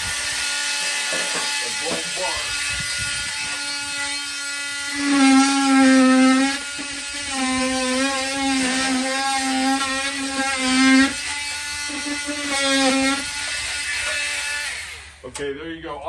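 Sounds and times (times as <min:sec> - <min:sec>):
power drill drilling: 0:00.0 - 0:15.2.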